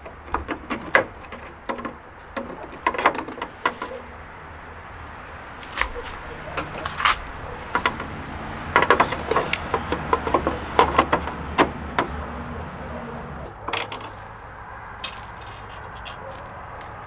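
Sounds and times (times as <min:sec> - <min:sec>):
clicks of hand tools and metal parts: 0:00.0 - 0:17.0.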